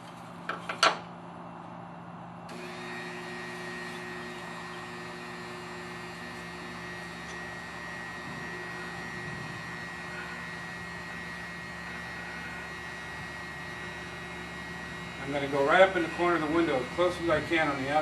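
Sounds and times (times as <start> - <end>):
electric drill whining: 2.5 - 18.0.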